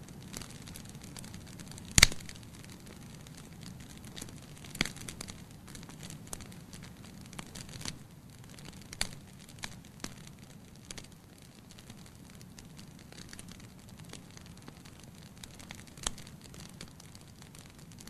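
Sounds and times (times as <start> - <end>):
firewood crackling and popping: 0.0 - 18.0
flames rushing: 0.0 - 18.0.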